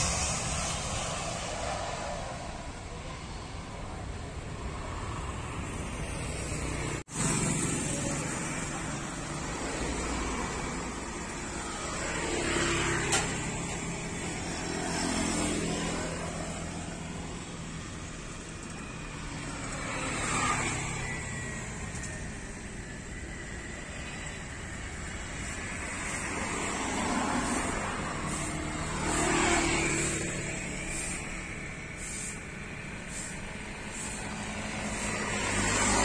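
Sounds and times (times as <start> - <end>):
road vehicles passing: 0.0 - 36.0
steady outdoor rumble: 0.0 - 36.0.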